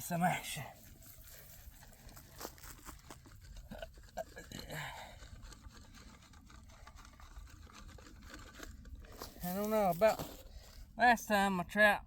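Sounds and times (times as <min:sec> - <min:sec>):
soil scraping and crunching: 0:00.0 - 0:11.9
rustle: 0:00.1 - 0:10.8.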